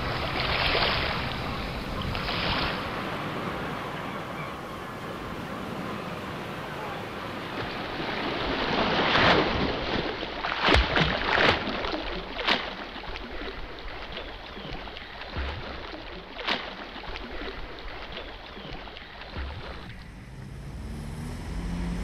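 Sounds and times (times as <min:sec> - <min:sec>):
water rushing: 0:00.0 - 0:22.0
wind: 0:00.0 - 0:22.0.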